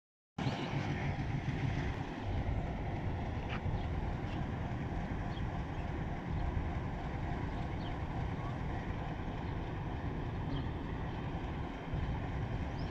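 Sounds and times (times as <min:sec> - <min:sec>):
diesel locomotive engine running: 0:00.4 - 0:12.9
wind buffeting microphone: 0:00.4 - 0:12.9.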